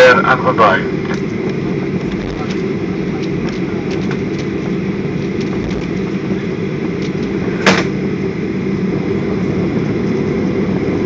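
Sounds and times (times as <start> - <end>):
jet engine hum and rumble: 0.0 - 11.0.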